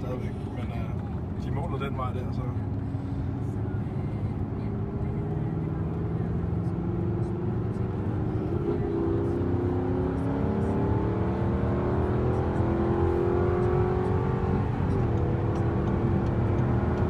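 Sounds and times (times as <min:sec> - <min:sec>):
car engine accelerating: 0:00.0 - 0:17.0
road and tyre noise: 0:00.0 - 0:17.0.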